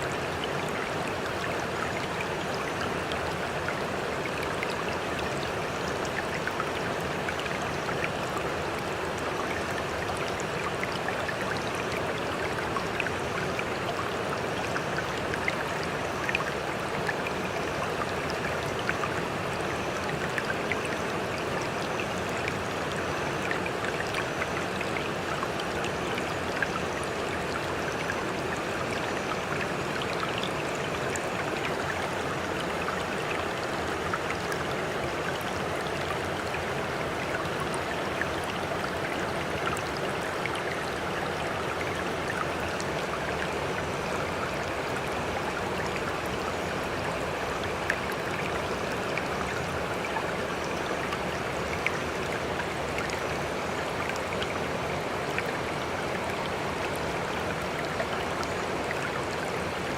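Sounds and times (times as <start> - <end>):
water splashes and drips: 0.0 - 59.9.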